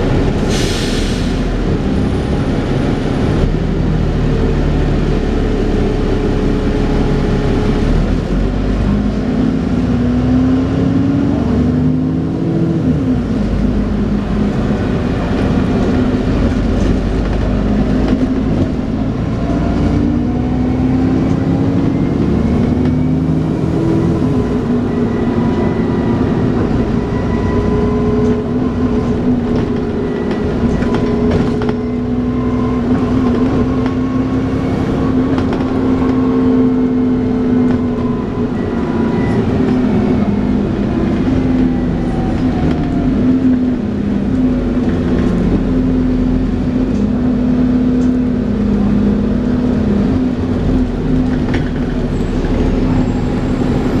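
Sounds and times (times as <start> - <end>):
bus drivetrain whine: 0.0 - 54.0.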